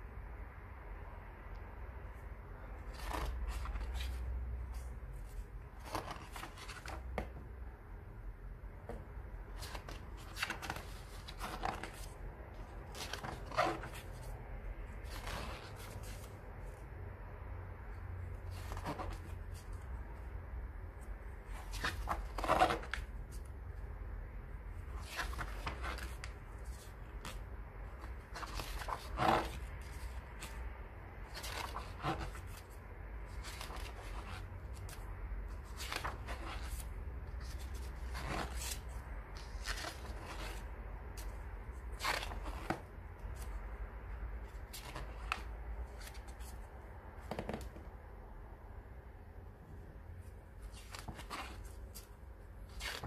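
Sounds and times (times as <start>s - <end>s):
book pages turning: 2.6s - 7.6s, 8.8s - 16.8s, 18.3s - 20.1s, 20.9s - 23.8s, 24.7s - 30.6s, 31.2s - 43.8s, 44.4s - 48.0s, 50.2s - 53.0s.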